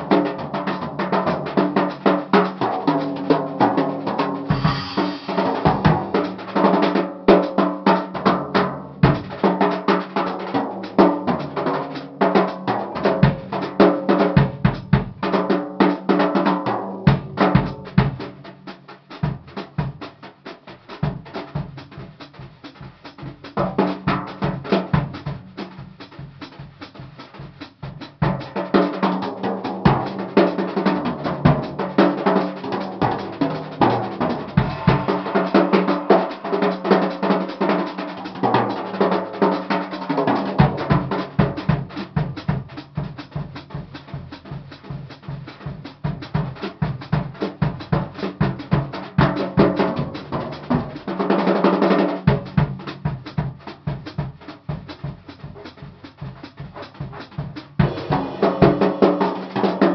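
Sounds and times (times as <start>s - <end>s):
drum kit played with brushes: 0.0s - 59.9s.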